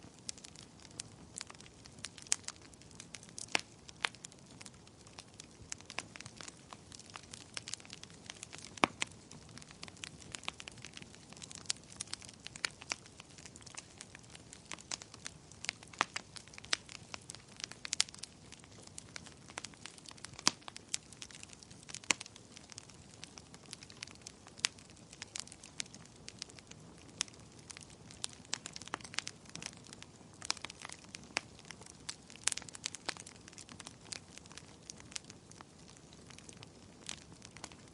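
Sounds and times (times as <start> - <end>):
fire crackling in a fireplace: 0.0 - 37.9.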